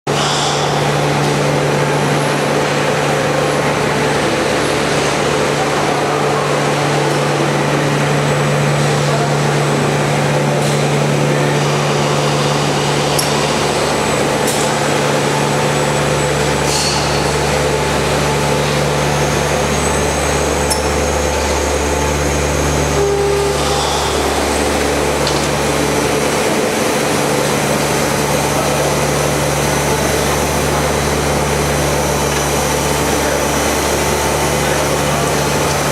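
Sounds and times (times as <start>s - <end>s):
deep machine drone: 0.1s - 35.9s
production line machinery humming: 0.1s - 35.9s.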